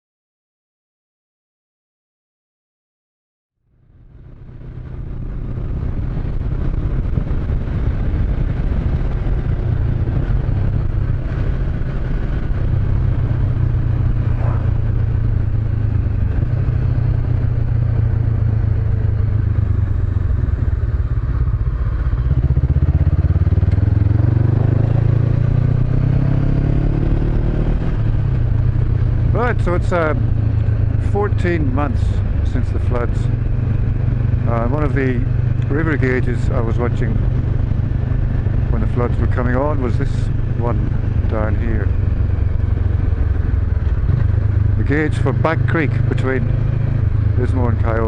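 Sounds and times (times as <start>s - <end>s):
motorcycle engine running: 3.6s - 48.0s.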